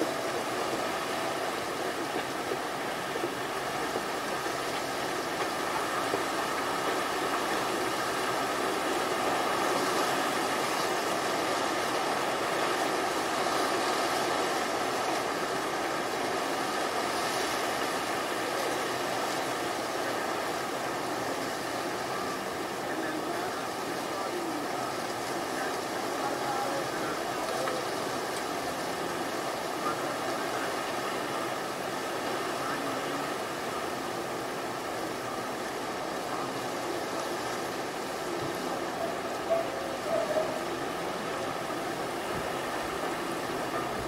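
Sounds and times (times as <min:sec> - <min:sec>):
surf washing on beach: 0:00.0 - 0:44.0.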